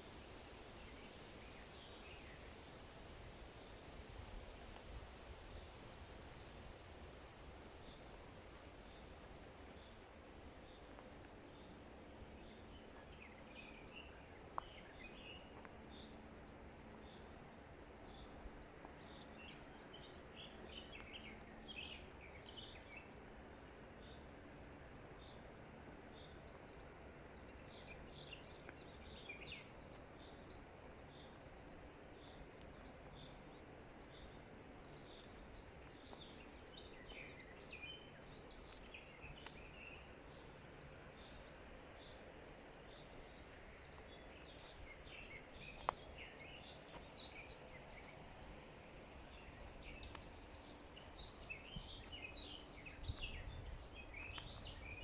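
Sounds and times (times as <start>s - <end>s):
faint low rumble: 0.0s - 55.0s
small birds chirping: 0.0s - 55.0s.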